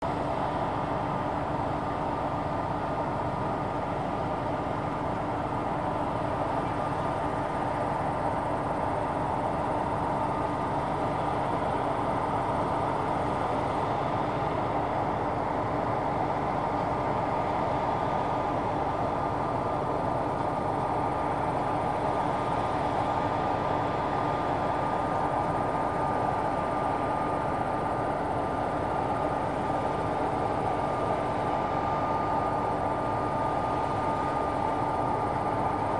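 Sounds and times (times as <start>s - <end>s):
combine harvester drone: 0.0s - 35.9s.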